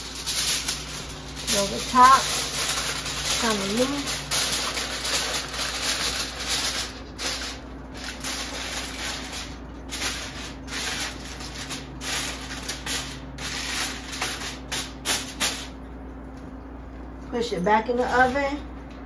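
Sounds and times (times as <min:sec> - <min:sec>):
aluminium foil crinkling: 0:00.0 - 0:15.8.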